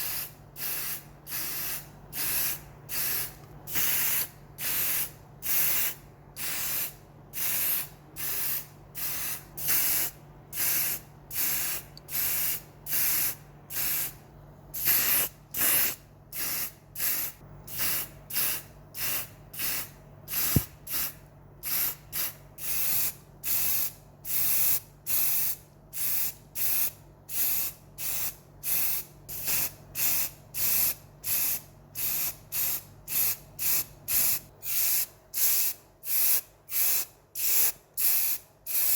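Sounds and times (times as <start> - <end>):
spray paint hissing: 0.0 - 14.2, 14.8 - 38.9.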